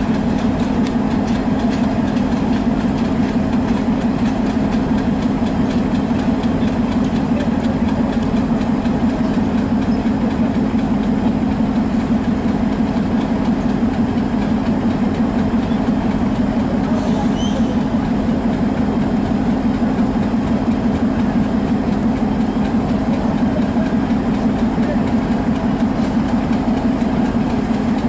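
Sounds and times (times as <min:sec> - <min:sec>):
train coaches rolling past: 0:00.0 - 0:28.0.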